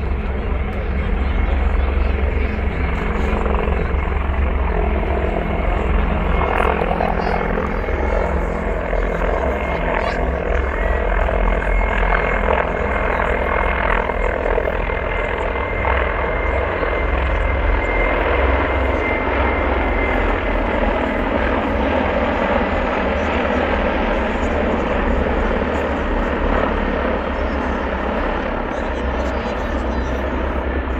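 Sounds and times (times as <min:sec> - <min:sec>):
helicopter flying past: 0:00.0 - 0:30.9.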